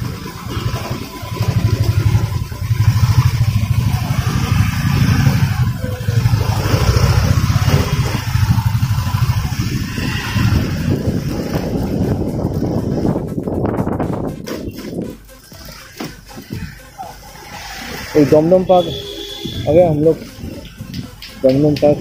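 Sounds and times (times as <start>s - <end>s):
motorcycle engine pulsing: 0.0s - 22.0s.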